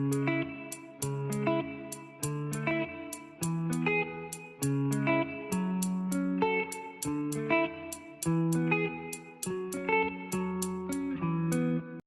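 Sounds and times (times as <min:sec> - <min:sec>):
guitar chords over a steady beat: 0:00.0 - 0:12.0.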